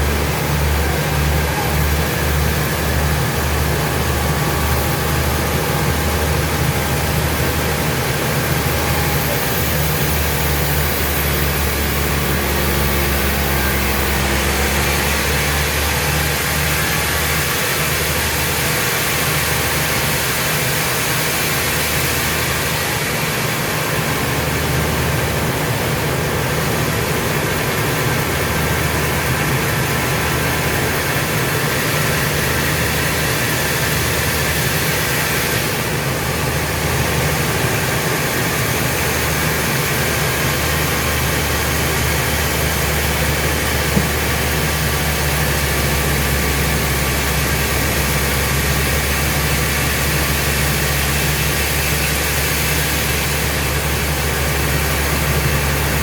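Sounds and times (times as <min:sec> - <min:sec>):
sawmill machinery low hum: 0:00.0 - 0:56.0.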